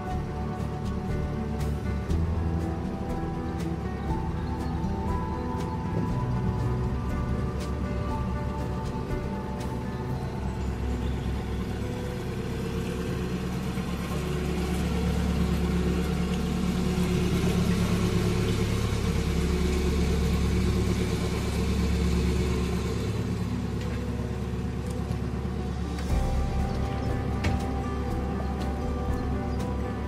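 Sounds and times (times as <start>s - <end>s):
boat diesel engine running: 0.0s - 30.0s.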